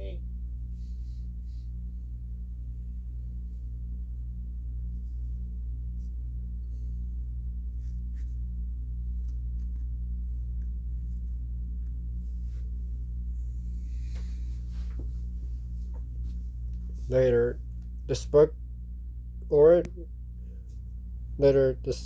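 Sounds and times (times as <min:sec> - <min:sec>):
low pulsing hum: 0:00.0 - 0:22.0.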